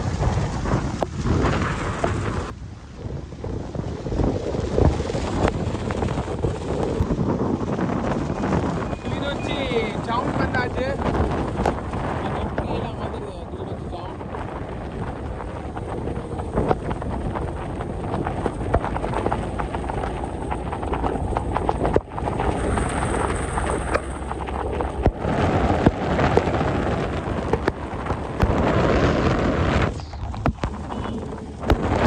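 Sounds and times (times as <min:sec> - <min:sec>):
crackling knocks: 0:00.0 - 0:02.5, 0:04.8 - 0:13.2, 0:14.2 - 0:32.0
vehicle road noise: 0:00.0 - 0:32.0
wind rumbling on microphone: 0:00.0 - 0:32.0.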